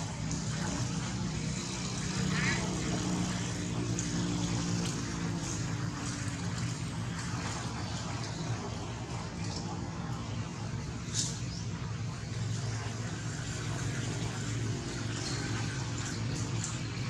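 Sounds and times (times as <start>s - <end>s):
low outdoor background hum: 0.0s - 17.0s.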